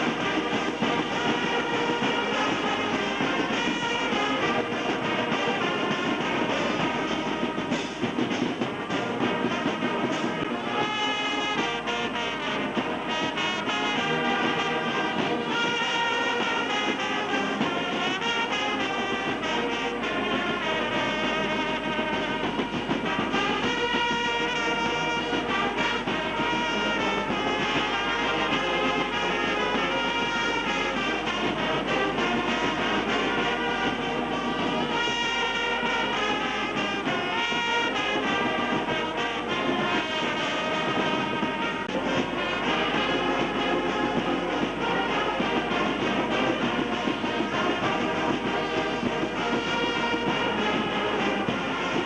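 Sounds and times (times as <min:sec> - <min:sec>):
brass band holding notes: 0:00.0 - 0:52.0.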